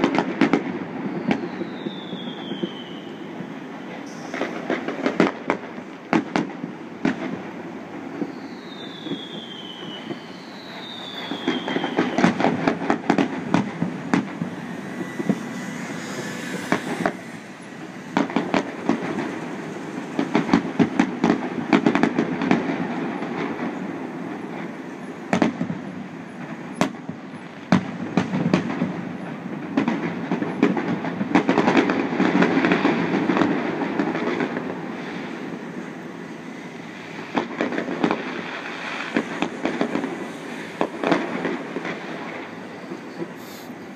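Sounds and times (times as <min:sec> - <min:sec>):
fireworks booming: 0:00.0 - 0:43.9
fireworks crackling pops: 0:00.0 - 0:43.9.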